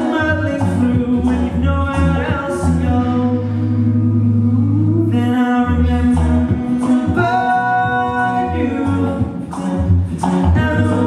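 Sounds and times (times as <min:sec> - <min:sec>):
male vocal group singing harmony: 0:00.0 - 0:11.0.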